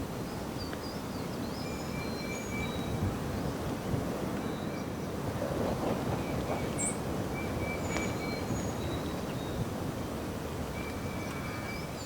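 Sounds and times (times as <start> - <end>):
strong wind blowing: 1.2 - 12.0.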